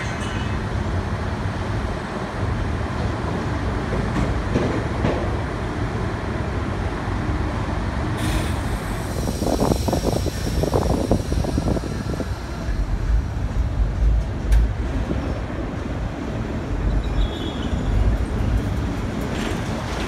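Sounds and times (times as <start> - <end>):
subway train on elevated track: 0.0 - 20.0.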